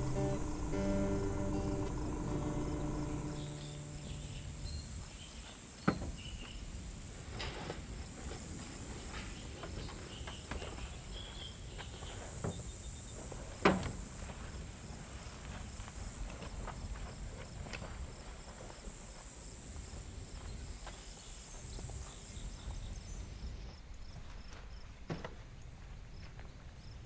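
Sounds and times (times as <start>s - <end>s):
insects chirring: 0.0s - 24.8s.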